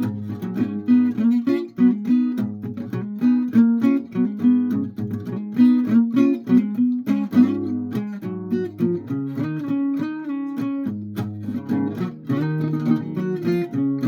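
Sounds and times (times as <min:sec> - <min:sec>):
guitar strummed and plucked: 0:00.0 - 0:14.0.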